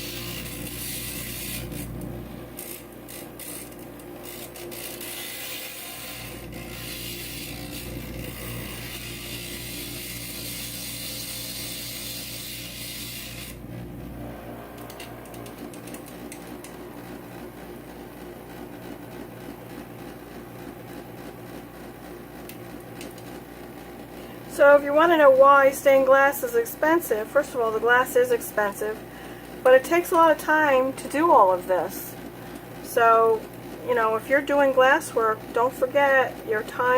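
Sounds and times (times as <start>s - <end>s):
grinder motor hum: 0.0s - 36.9s.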